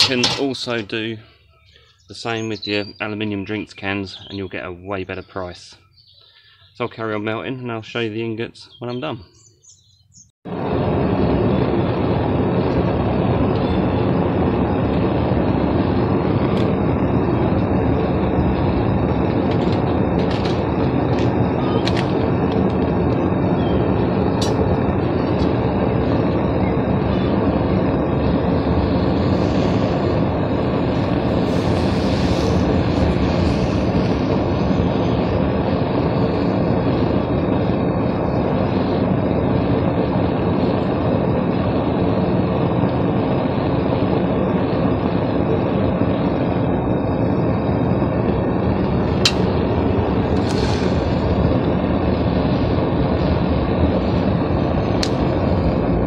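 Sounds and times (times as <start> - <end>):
furnace burner rushing: 0.0 - 2.8, 10.5 - 56.0.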